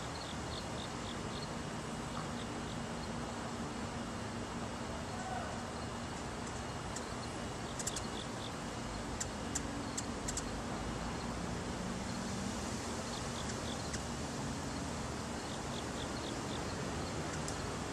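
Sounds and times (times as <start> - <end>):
outdoor background hiss: 0.0 - 17.9.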